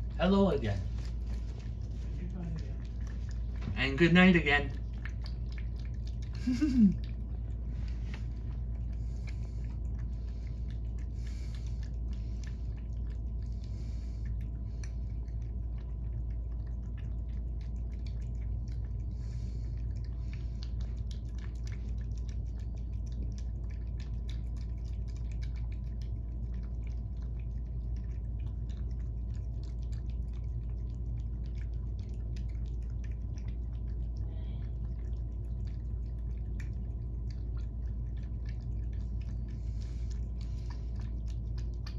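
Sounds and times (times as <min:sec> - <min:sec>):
cats chewing and licking: 0:00.0 - 0:41.9
steady low hum: 0:00.0 - 0:41.9.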